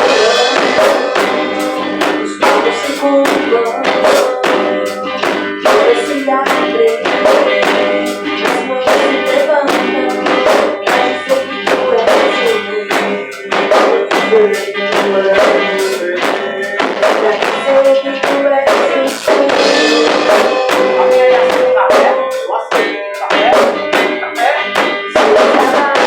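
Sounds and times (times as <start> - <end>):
worship band playing: 0.0 - 26.0.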